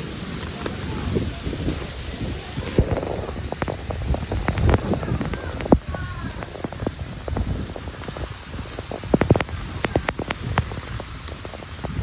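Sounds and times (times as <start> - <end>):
heavy rain spattering: 0.0 - 12.0.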